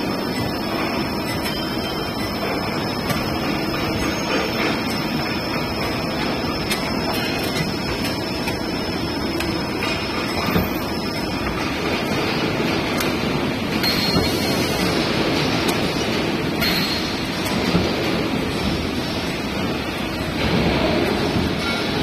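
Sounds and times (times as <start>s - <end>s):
welding machine running: 0.0s - 22.0s.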